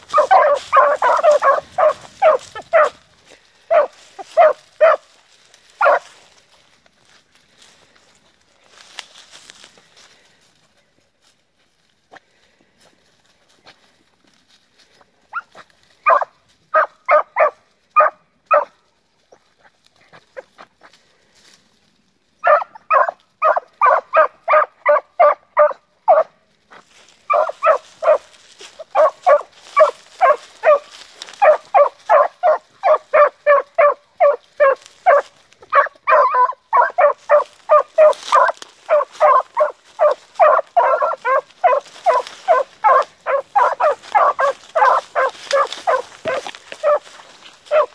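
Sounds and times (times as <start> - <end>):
hounds baying and barking: 0.0 - 9.8, 14.9 - 21.0, 22.3 - 47.9.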